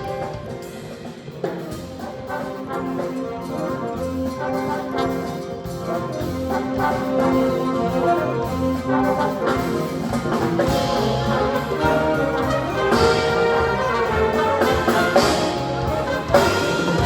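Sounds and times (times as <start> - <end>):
brass ensemble playing: 0.0 - 17.0.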